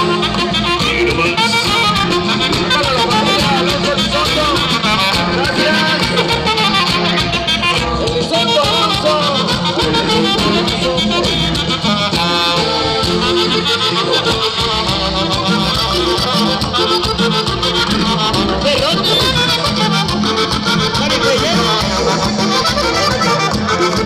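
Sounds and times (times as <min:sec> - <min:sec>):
band melody: 0:00.0 - 0:24.0
steady bass beat: 0:00.0 - 0:24.0.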